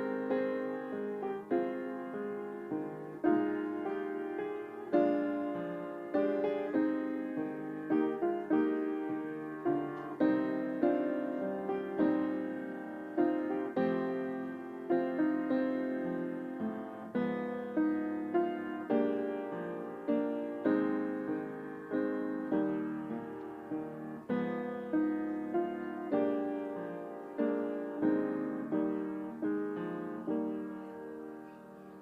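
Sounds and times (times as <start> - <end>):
slow gentle piano piece: 0.0 - 32.0.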